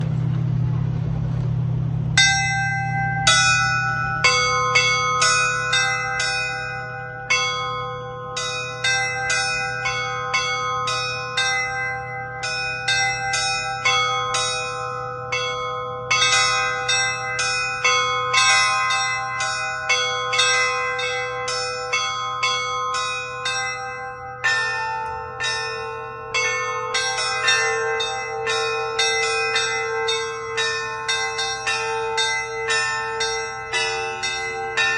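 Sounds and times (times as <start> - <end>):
church bells ringing: 0.0 - 34.9
steady low hum: 0.0 - 34.9
low bell ringing: 1.8 - 34.9.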